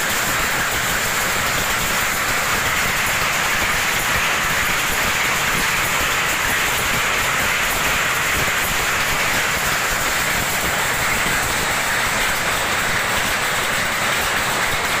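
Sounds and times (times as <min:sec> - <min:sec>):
weaving loom clattering: 0:00.0 - 0:15.0.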